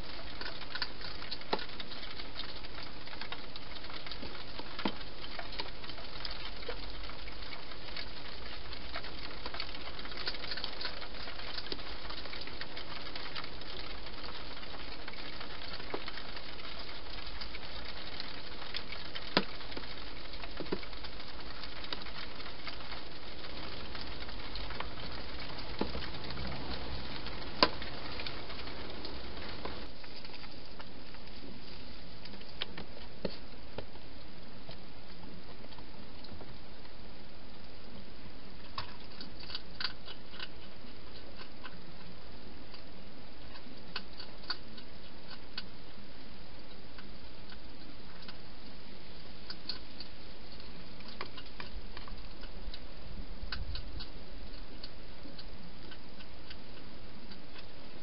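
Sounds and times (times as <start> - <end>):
hedgehog crunching food: 0.0 - 58.0
steady hiss: 0.0 - 58.0.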